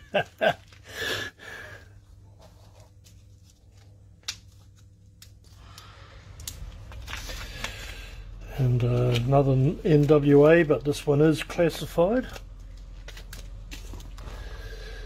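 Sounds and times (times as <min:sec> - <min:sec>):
plastic wrapping crinkling: 0:00.0 - 0:01.1, 0:02.3 - 0:15.0.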